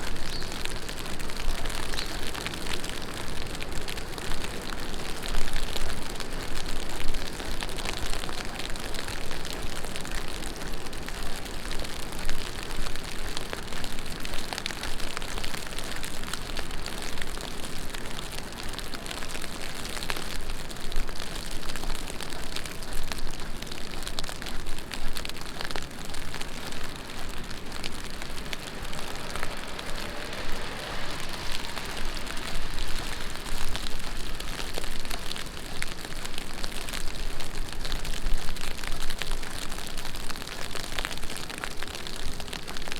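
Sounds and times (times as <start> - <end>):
heavy rain on street: 0.0 - 42.9.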